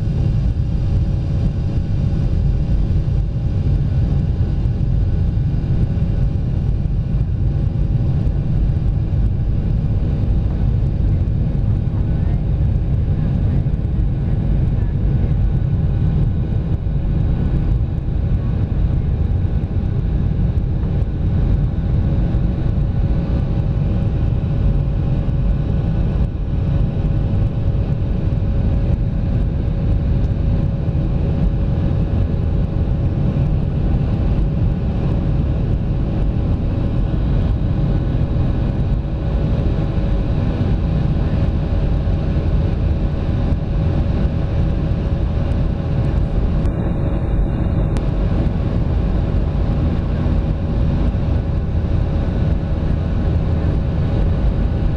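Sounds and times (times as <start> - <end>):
faint steady hum: 0.0 - 54.9
jet engines roaring: 0.0 - 54.9.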